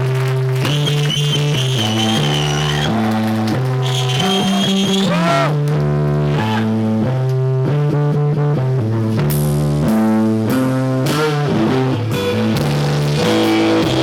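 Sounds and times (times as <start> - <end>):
bass guitar low notes: 0.0 - 14.0
electric guitar wavering notes: 0.0 - 14.0.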